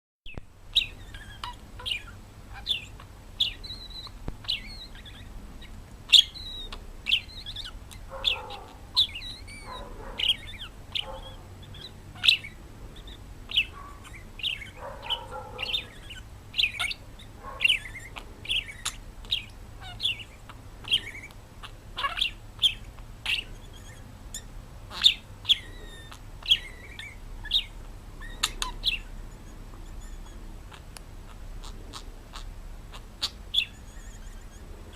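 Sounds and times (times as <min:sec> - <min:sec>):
bird chirping: 0:00.3 - 0:34.9.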